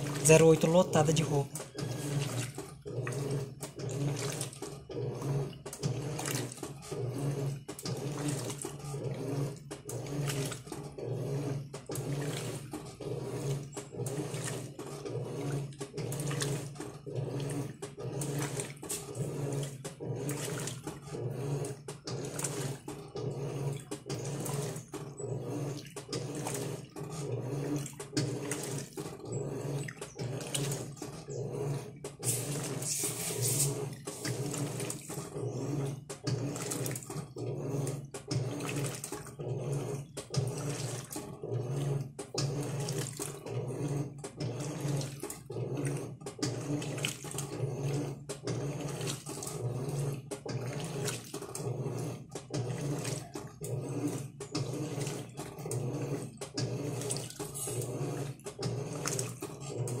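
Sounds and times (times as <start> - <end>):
washing machine motor humming: 0.0 - 60.0
water and clothes sloshing: 0.0 - 60.0.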